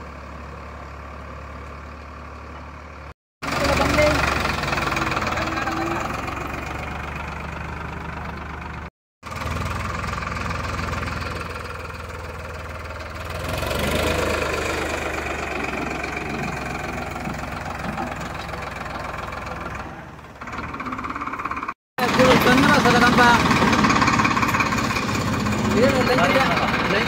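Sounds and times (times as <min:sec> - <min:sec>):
tractor diesel engine knocking: 0:00.0 - 0:27.0.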